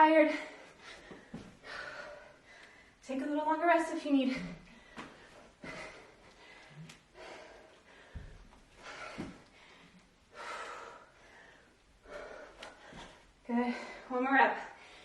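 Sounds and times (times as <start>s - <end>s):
woman breathing hard: 0.3s - 3.0s, 4.2s - 15.0s.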